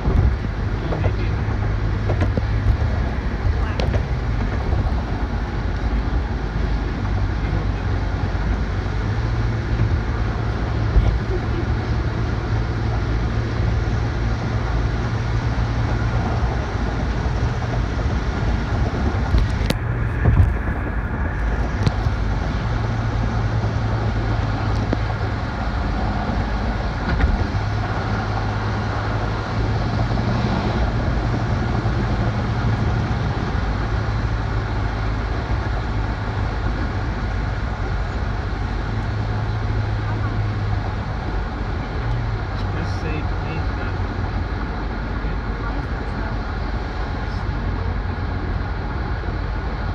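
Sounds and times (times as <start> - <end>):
vehicle road noise: 0.0 - 49.9.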